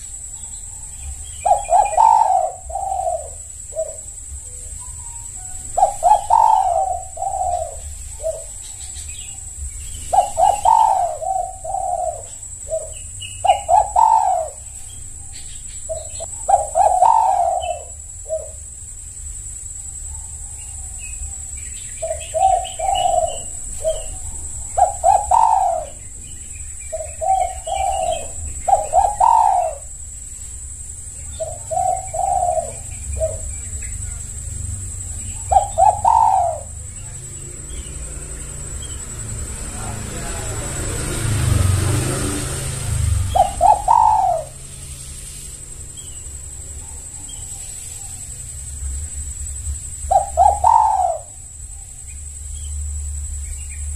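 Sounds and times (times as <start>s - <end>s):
dove cooing: 0.0s - 19.0s, 19.8s - 48.5s, 49.5s - 52.6s
faint bird chirps: 0.0s - 40.6s, 42.6s - 53.9s.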